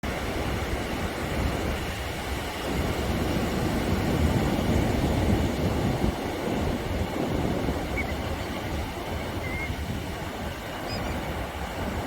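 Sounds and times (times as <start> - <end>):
steady wind rumbling: 0.1 - 12.0.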